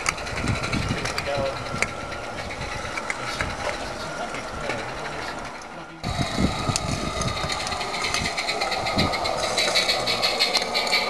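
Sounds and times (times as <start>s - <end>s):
model train wheels clicking on rails: 0.0s - 11.0s
steam locomotive thumps: 0.0s - 11.0s.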